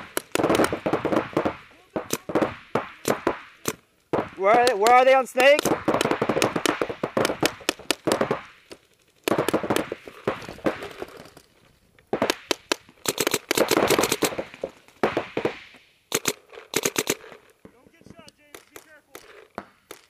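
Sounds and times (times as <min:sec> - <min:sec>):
paintball markers firing: 0:00.0 - 0:20.0.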